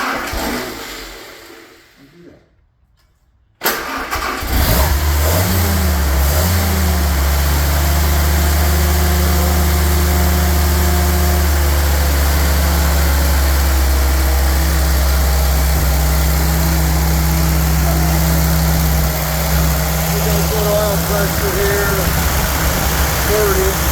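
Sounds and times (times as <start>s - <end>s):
engine running: 4.2s - 23.9s.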